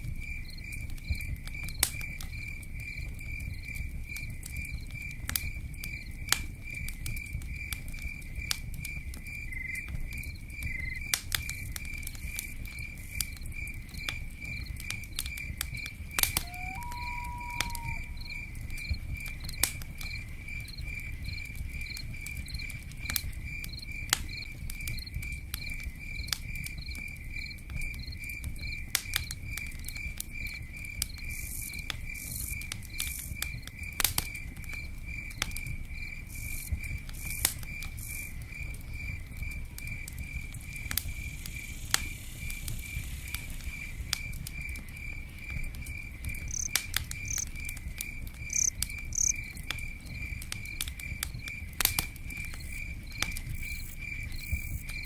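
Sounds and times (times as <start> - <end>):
sharp crackles and taps: 0.0 - 55.0
cricket chirping: 0.1 - 55.0.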